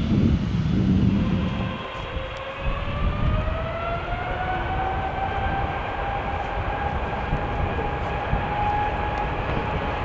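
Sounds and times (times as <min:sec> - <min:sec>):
jet engines spooling up: 0:00.0 - 0:10.0.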